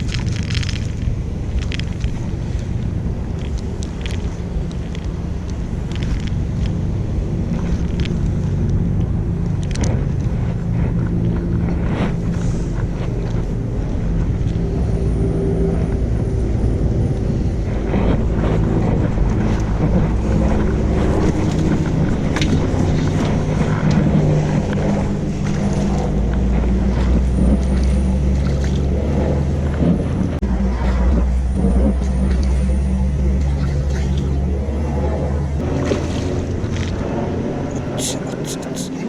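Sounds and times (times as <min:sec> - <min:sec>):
low engine drone: 0:00.0 - 0:39.0.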